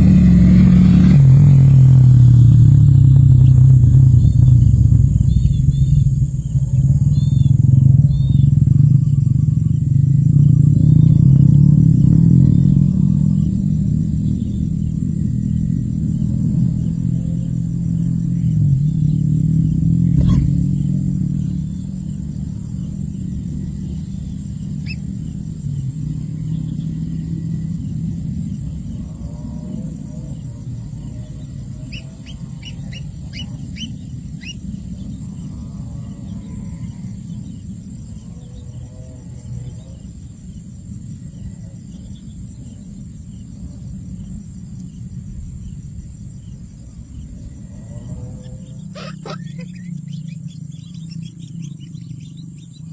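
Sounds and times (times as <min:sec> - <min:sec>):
faint chirps: 0:00.0 - 0:52.9
low rumble: 0:00.0 - 0:52.9
low steady engine hum: 0:00.0 - 0:52.9.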